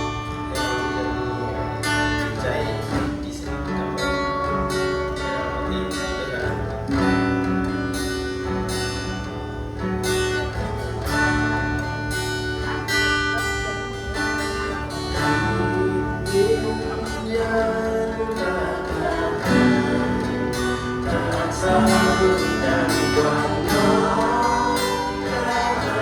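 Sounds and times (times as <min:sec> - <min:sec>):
sustained bass: 0:00.0 - 0:26.0
worship music with guitar chords: 0:00.0 - 0:26.0.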